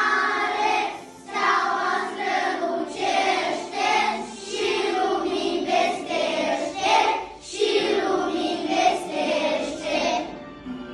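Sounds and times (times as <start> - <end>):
children singing carol together: 0.0 - 10.9.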